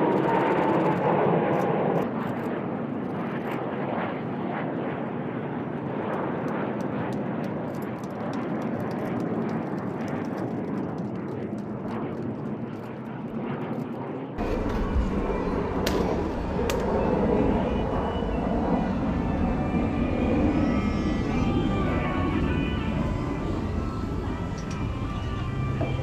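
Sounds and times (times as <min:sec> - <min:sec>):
falling jet engine whine: 0:00.0 - 0:26.0
steady jet roar: 0:00.0 - 0:26.0.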